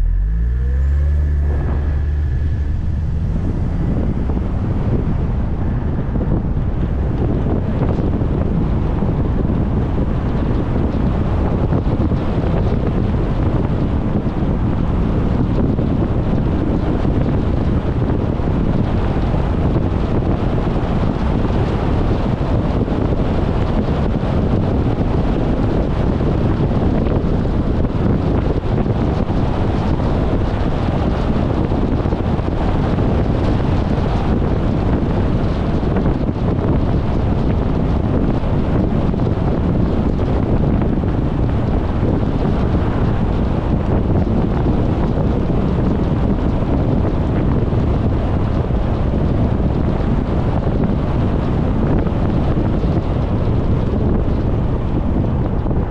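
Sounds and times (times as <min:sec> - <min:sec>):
car wind and road noise: 0:00.0 - 0:55.9.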